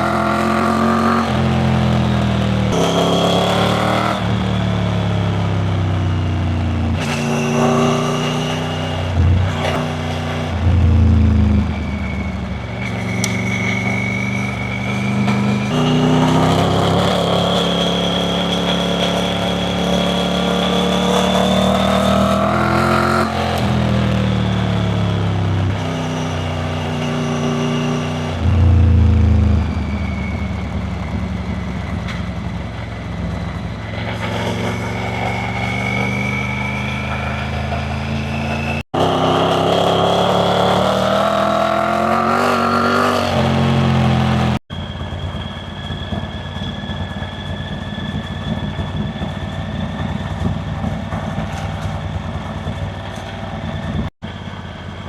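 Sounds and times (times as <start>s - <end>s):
motorcycle engine revving: 0.0s - 45.1s
high whine: 0.0s - 55.0s.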